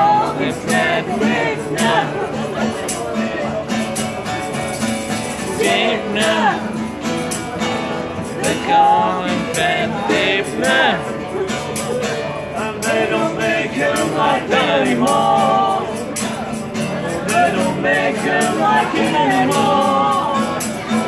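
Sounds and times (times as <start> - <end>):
people singing: 0.0 - 21.0
strummed acoustic guitar: 0.0 - 21.0
tambourine jingling: 0.1 - 21.0.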